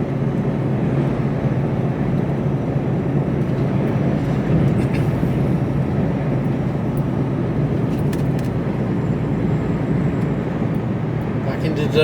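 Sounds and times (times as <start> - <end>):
lorry engine and road drone: 0.0 - 12.0.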